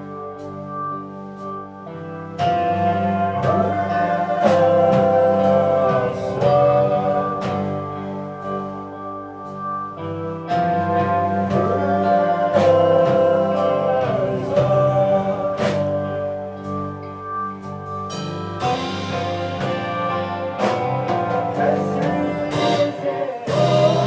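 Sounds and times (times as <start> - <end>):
electric guitar chords: 0.0 - 24.0
drum kit and cymbal hits: 2.4 - 8.8, 9.4 - 24.0.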